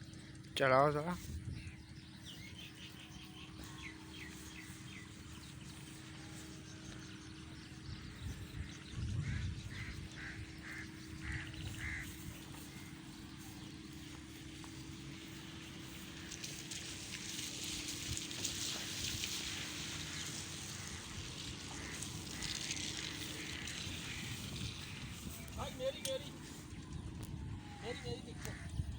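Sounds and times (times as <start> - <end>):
bird chirping: 0.0 - 28.9
steady low hum: 0.0 - 28.9.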